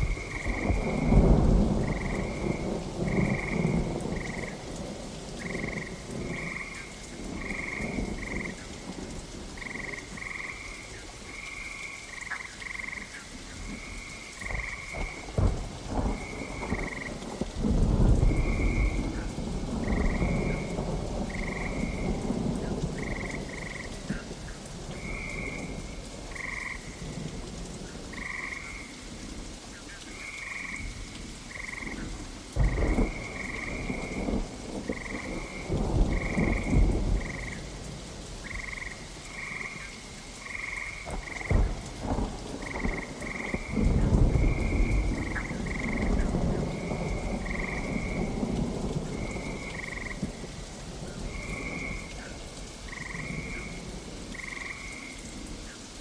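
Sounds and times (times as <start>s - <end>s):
low thunder rumbles: 0.0s - 55.6s
frogs croaking: 0.0s - 55.9s
steady rain: 0.0s - 56.0s.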